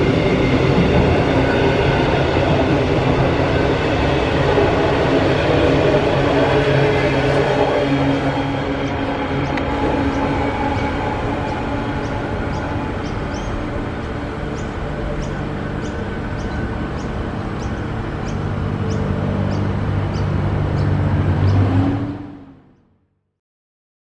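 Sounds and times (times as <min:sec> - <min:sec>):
freight train rumbling: 0:00.0 - 0:22.8.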